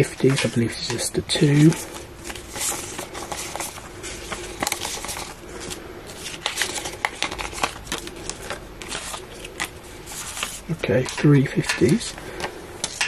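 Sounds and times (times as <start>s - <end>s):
plastic banknotes crinkling: 0.0s - 13.0s.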